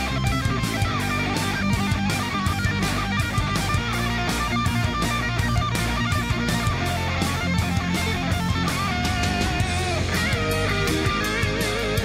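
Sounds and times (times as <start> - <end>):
guitar instrumental music: 0.0 - 12.0.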